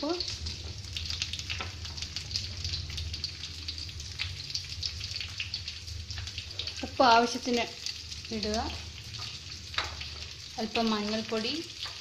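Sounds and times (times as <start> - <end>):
oil crackling and popping: 0.0 - 12.0
onions sizzling in oil: 0.0 - 12.0.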